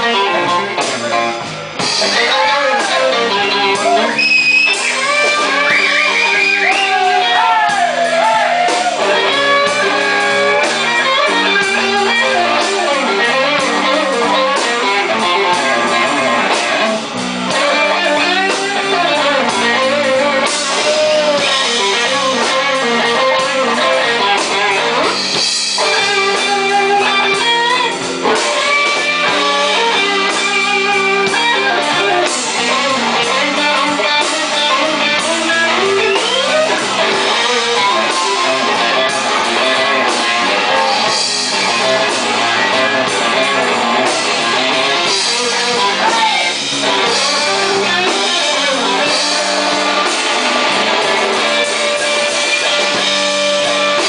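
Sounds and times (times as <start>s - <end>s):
blues band playing: 0.0s - 54.0s
electric guitar bending notes: 0.0s - 54.0s.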